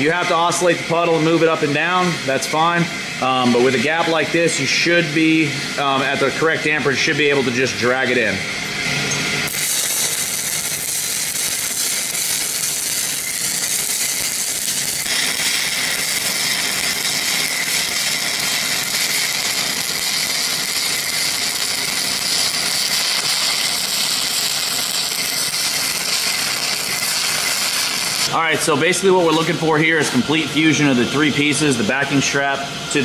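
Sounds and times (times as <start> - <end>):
welding arc crackling: 0.0 - 33.0.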